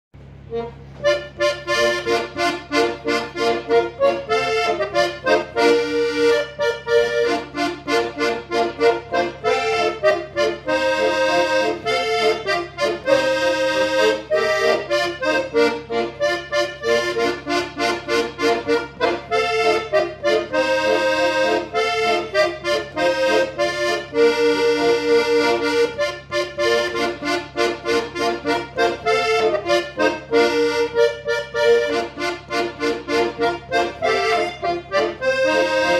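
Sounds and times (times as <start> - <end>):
accordion tango melody: 0.2 - 35.9.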